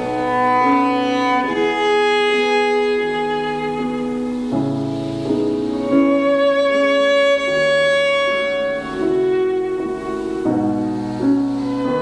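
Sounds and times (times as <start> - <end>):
lower accompaniment: 0.0 - 12.0
violin playing long notes: 0.0 - 12.0.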